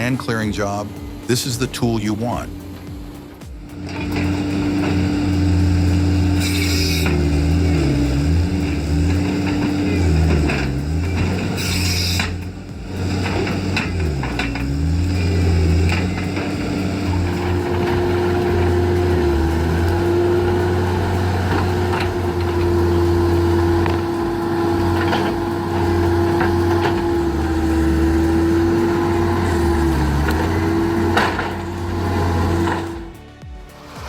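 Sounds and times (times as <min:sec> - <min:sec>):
heavy machine engine whining: 0:00.0 - 0:34.0.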